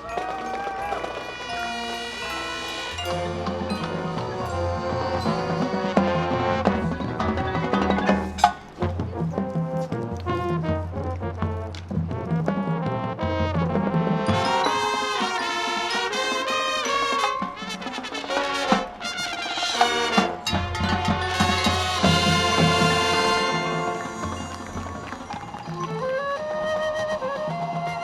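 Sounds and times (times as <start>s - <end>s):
trumpets and trombones: 0.0s - 27.9s
drums: 0.0s - 28.0s
marching band playing: 0.0s - 28.0s.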